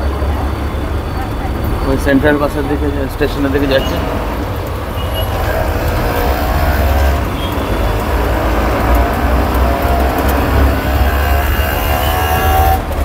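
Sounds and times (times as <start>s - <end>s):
bus engine rumble: 0.0s - 13.0s
road noise: 0.0s - 13.0s.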